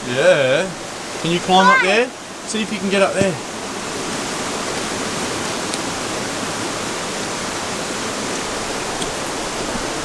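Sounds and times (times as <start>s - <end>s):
water rushing in creek and waterfall: 0.0s - 10.0s.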